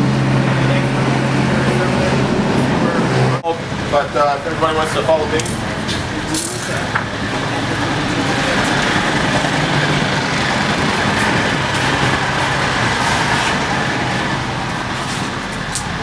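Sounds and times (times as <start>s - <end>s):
construction machinery droning: 0.0s - 16.0s.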